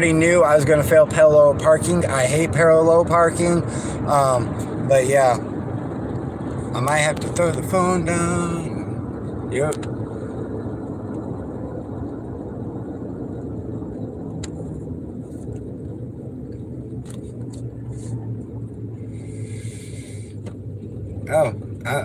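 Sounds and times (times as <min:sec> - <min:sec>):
road and engine noise in cabin: 0:00.0 - 0:22.0.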